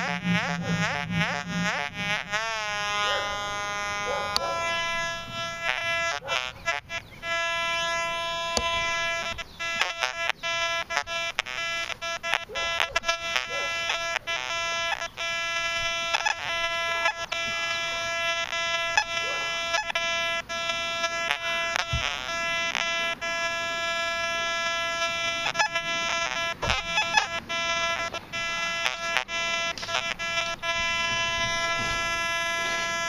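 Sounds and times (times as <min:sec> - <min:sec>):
metal detector buzzing tone: 0:00.0 - 0:33.0.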